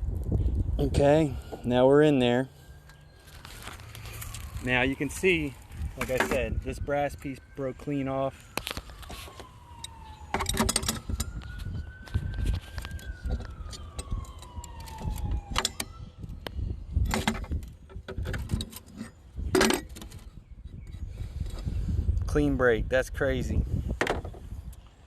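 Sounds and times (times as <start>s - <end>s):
faint siren wailing: 0.0s - 22.1s.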